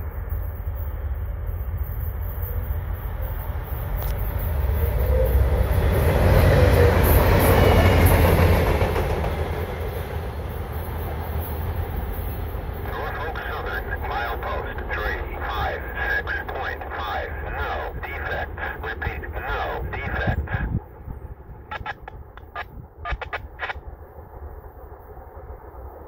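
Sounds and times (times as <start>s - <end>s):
locomotive engine rumble: 0.0s - 26.0s.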